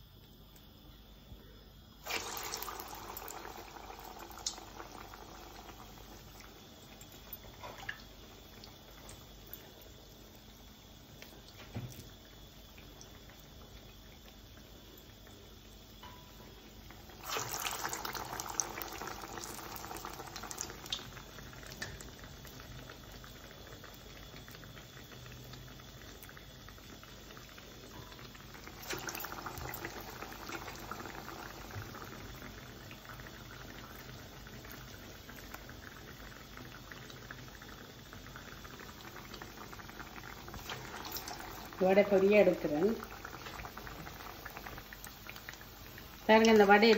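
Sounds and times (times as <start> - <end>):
fritters sizzling in hot oil: 2.0 - 46.9.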